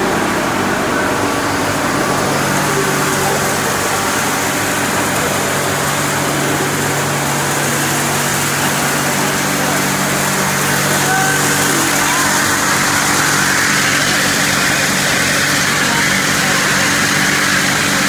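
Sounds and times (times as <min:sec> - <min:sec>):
washing machine line running: 0:00.0 - 0:18.0.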